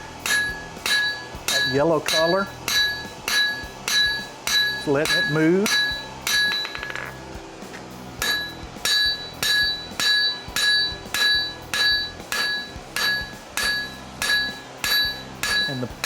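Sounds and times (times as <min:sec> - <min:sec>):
hammer striking metal on anvil: 0:00.0 - 0:16.0.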